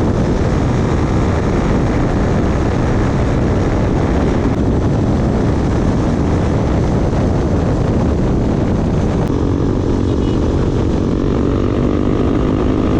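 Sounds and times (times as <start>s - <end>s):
motorcycle engine running loudly: 0.0s - 12.9s.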